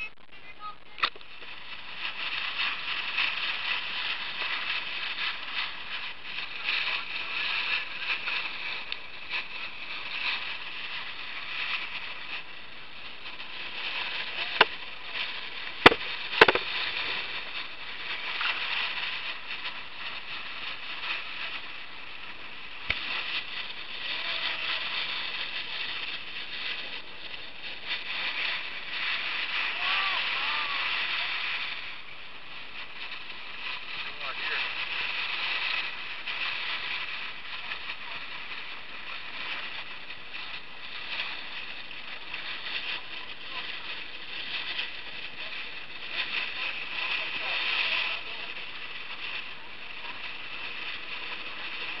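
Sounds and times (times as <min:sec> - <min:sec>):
bow wave splashing along hull: 0:01.0 - 0:52.0.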